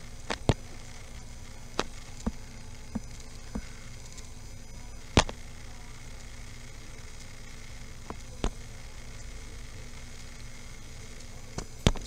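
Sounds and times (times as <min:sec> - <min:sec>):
steady hiss and hum: 0:00.0 - 0:12.0.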